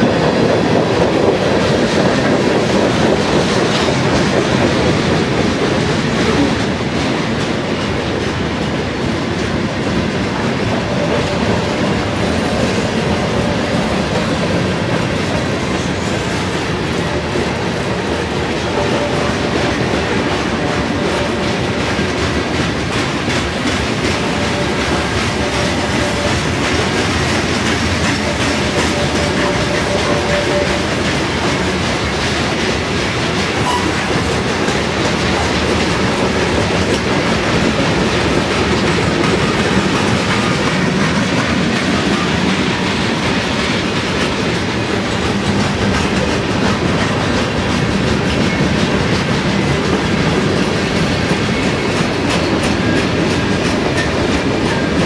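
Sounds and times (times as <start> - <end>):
train wheels clickety-clack: 0.0 - 55.0.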